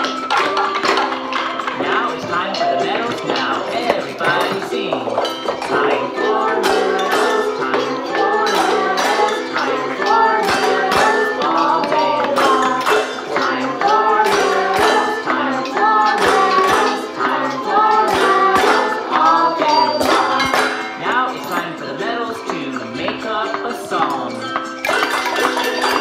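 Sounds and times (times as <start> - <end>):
metallic clanks of kitchen utensils: 0.0 - 21.6, 22.8 - 26.0
children singing: 0.0 - 26.0.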